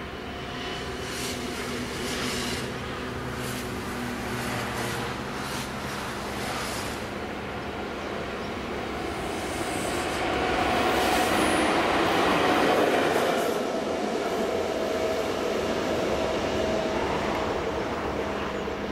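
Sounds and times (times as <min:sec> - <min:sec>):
diesel locomotive engine hum: 0:00.0 - 0:18.9.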